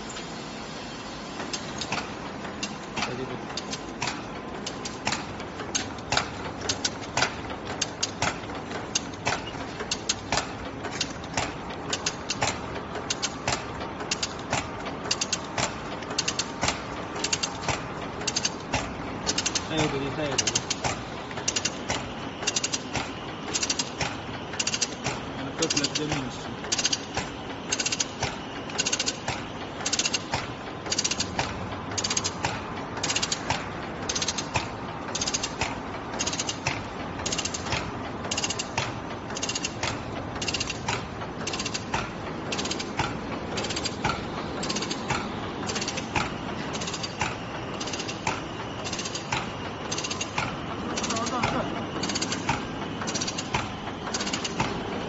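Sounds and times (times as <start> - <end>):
sharp evenly spaced clacks: 1.5 - 55.0
pleating machine clattering: 1.8 - 55.0.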